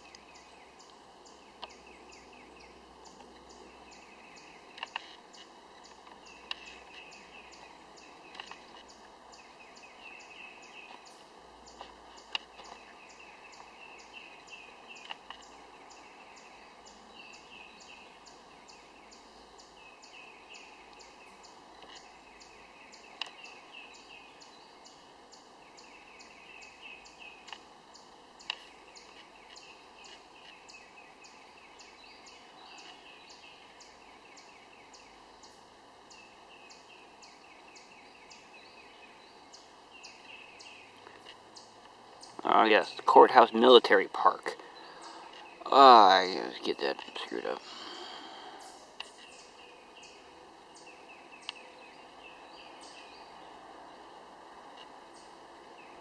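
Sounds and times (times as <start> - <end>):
faint outdoor ambience: 0.0 - 56.0
songbird singing: 0.0 - 56.0.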